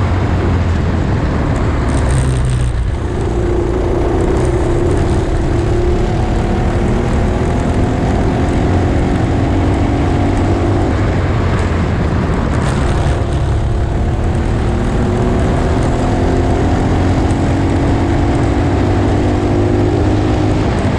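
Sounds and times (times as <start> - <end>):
heavy low rumble: 0.0 - 16.8
racing kart engine revving: 1.2 - 20.9.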